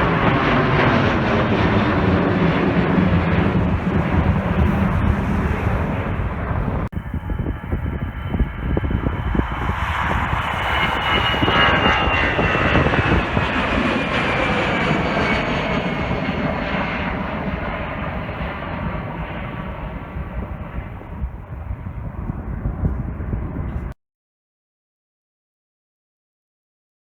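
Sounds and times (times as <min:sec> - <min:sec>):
jet engines passing: 0:00.0 - 0:23.9.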